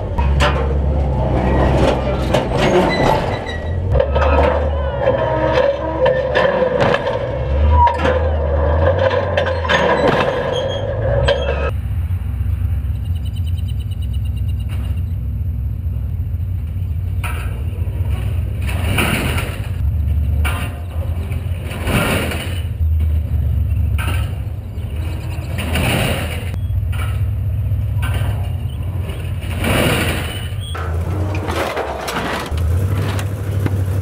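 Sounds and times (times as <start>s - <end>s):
engine deep low drone: 0.0s - 34.0s.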